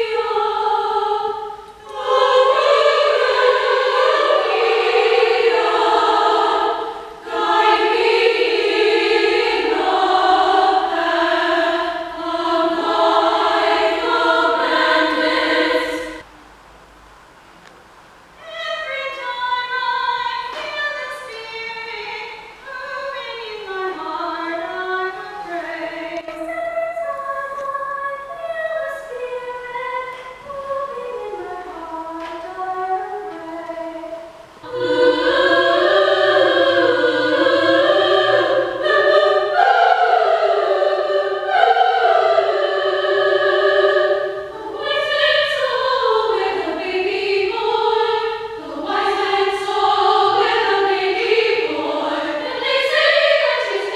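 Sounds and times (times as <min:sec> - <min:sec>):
girls' choir singing: 0:00.0 - 0:16.2, 0:18.4 - 0:53.9.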